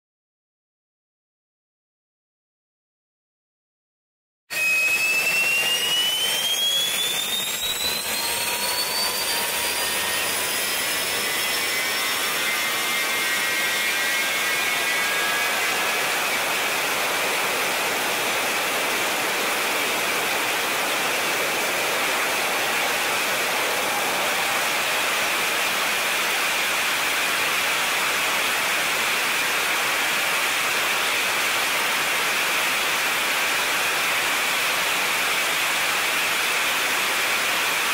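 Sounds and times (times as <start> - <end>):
jet engine turbine whine and roar: 4.5 - 37.9.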